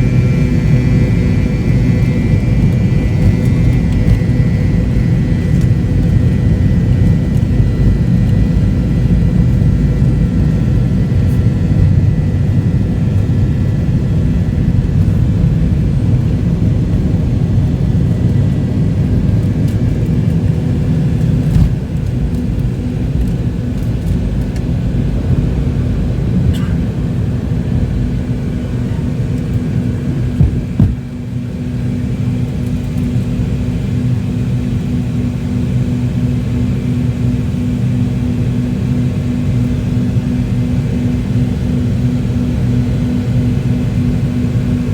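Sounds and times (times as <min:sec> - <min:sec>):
faint hum and whine: 0:00.0 - 0:44.9
jet airliner cabin rumble: 0:00.0 - 0:44.9.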